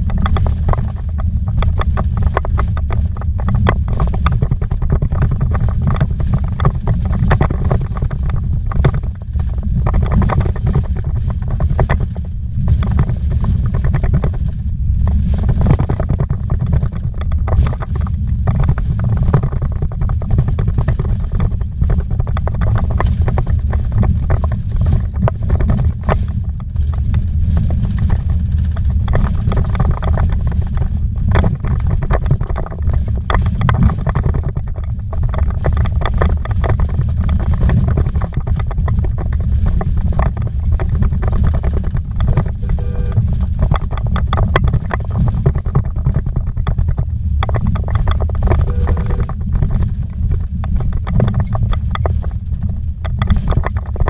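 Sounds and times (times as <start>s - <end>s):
knocks and rattles over bumps: 0.0s - 54.0s
vehicle rumbling on dirt road: 0.0s - 54.0s.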